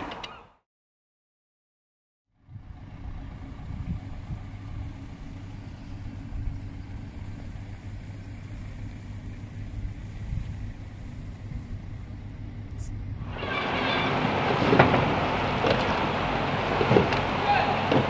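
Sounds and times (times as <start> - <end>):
low engine hum: 2.3 - 18.0.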